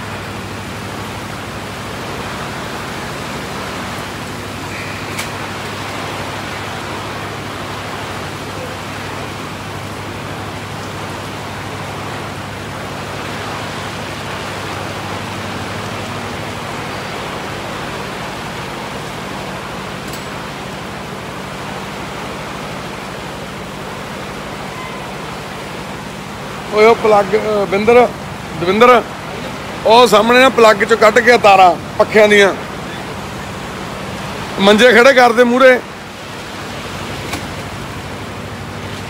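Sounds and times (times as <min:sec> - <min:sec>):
heavy rain splashing into water: 0:00.0 - 0:39.0
low steady hum: 0:00.0 - 0:39.0.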